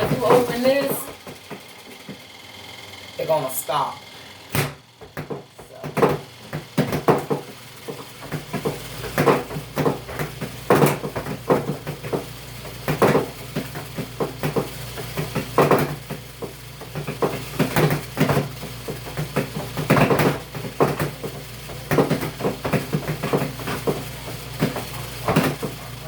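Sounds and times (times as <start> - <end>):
washing machine knocks and clatter: 0.0 - 2.3, 4.5 - 26.0
washing machine motor hum: 0.0 - 26.0.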